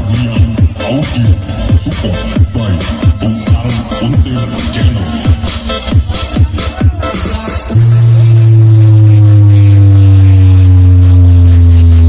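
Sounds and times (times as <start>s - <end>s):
electronic dance music: 0.0s - 12.0s
heavy bass kicks sliding down: 0.0s - 12.0s.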